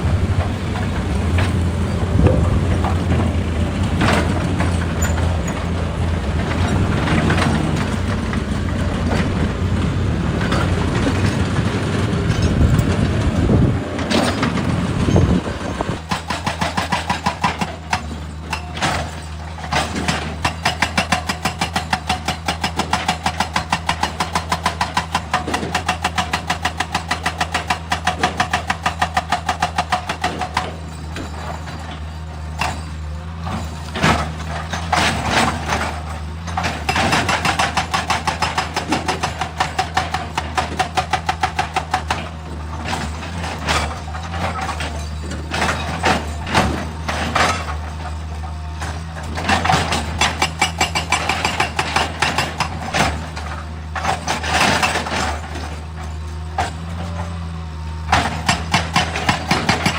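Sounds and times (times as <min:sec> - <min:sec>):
knocks and clatter: 0:00.0 - 0:57.4
excavator diesel engine: 0:00.0 - 0:59.9
hydraulic rock breaker hammering: 0:00.0 - 0:59.9.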